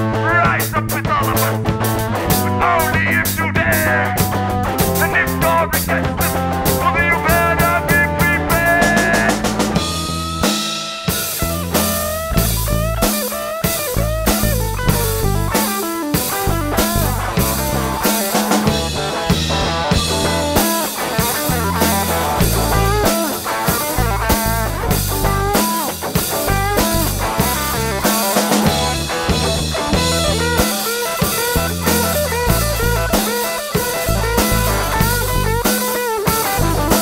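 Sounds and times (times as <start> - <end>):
bass guitar: 0.0 - 37.0
drum kit steady beat: 0.0 - 37.0
electric guitar lead with bending notes: 0.0 - 37.0.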